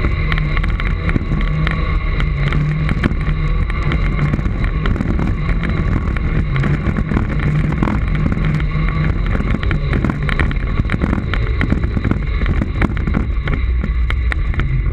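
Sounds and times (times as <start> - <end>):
knocks and rattles: 0.0 - 14.9
segway rumble and hum: 0.0 - 14.9
wind buffeting microphone: 0.0 - 14.9.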